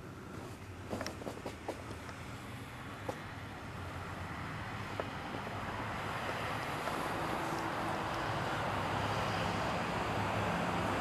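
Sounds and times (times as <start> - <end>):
distant road traffic: 0.0 - 11.0.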